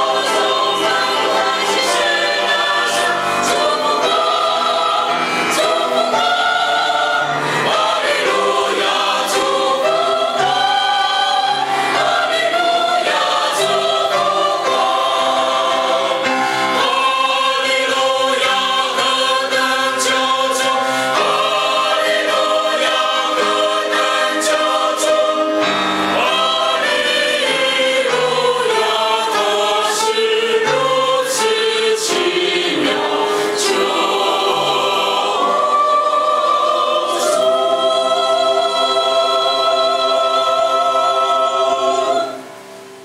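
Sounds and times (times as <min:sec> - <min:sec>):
choir singing a hymn: 0:00.0 - 0:43.0.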